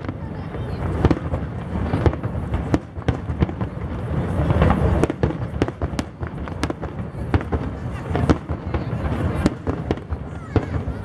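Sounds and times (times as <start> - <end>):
firework bangs and cracks: 0.0 - 11.0.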